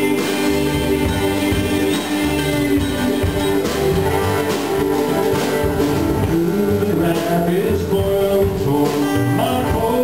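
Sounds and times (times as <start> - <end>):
acoustic guitar: 0.0 - 10.0
mandolin: 0.0 - 10.0
upright bass: 0.0 - 10.0.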